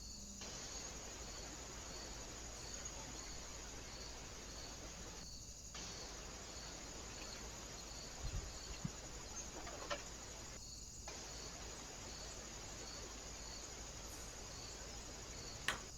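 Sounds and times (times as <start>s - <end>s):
faint outdoor hiss: 0.0s - 15.9s
high insect chirp: 0.0s - 15.9s.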